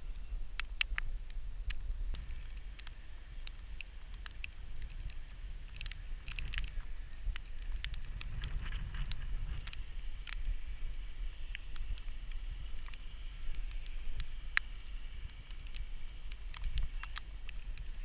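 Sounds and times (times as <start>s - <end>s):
crackling clicks: 0.0s - 18.0s
wind buffeting microphone: 0.0s - 18.0s.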